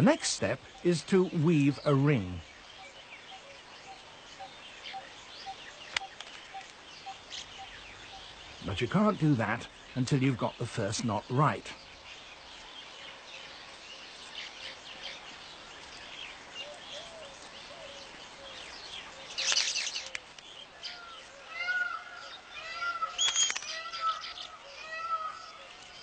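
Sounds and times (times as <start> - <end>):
birds chattering and chirping: 0.0 - 26.0.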